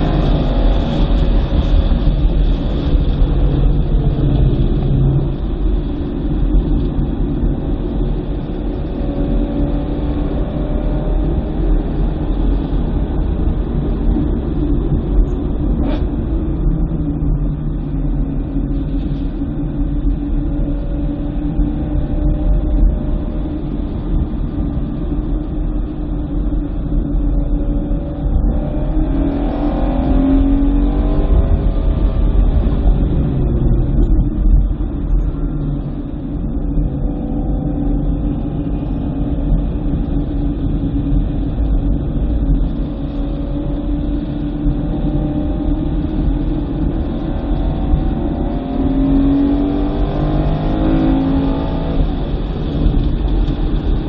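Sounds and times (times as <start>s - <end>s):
car engine under load: 0.0s - 54.0s
road and wind noise: 0.0s - 54.0s.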